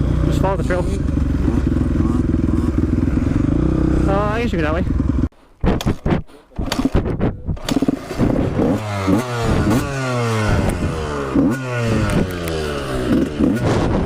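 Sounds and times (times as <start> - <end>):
dirt bike engine revving: 0.0 - 5.3, 6.6 - 14.0.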